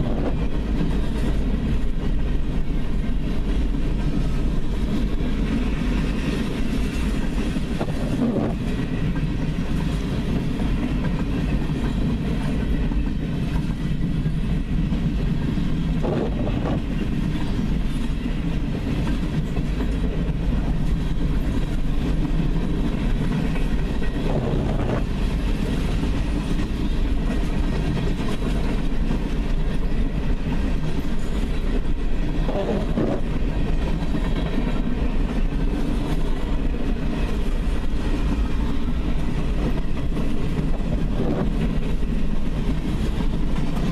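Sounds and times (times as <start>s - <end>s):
train cars clanking: 0.0s - 43.9s
train wheels rumbling on rail: 0.0s - 43.9s.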